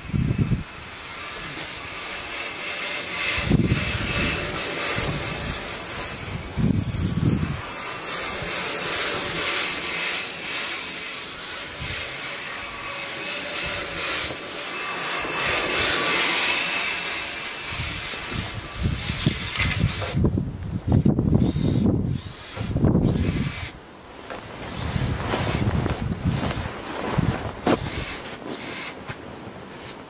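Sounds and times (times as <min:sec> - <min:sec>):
electric motors whining: 0:00.0 - 0:29.2
wind noise on microphone: 0:00.0 - 0:30.0.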